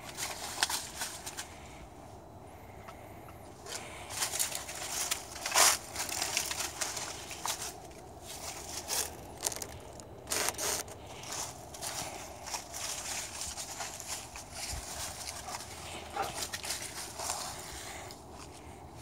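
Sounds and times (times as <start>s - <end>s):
footsteps crunching dry leaves: 0.0s - 1.8s, 3.5s - 19.0s.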